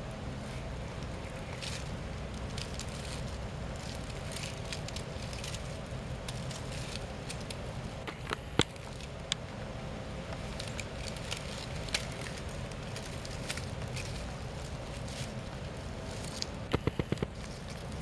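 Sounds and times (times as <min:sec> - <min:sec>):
dry leaves crackling: 0:00.0 - 0:18.0.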